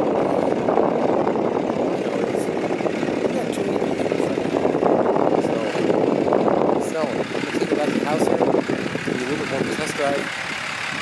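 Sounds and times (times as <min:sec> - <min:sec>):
diesel pickup engine idling: 0:00.0 - 0:11.0.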